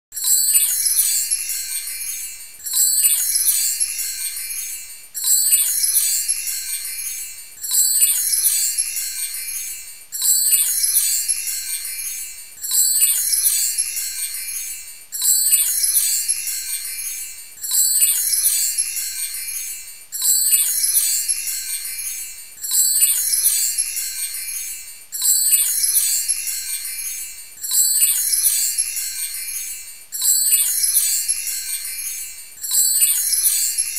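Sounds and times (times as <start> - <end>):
high glittering chime: 0.2 - 33.9.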